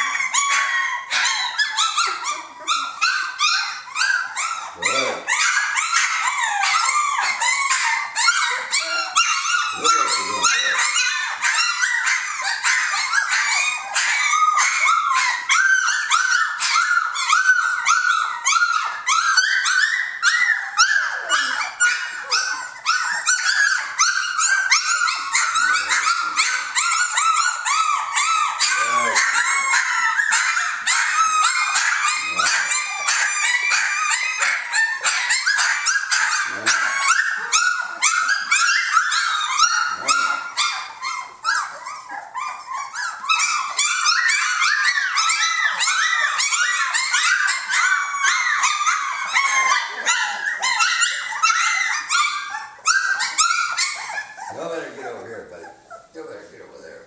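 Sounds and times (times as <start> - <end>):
puppies whining and squealing: 0.0 - 57.0.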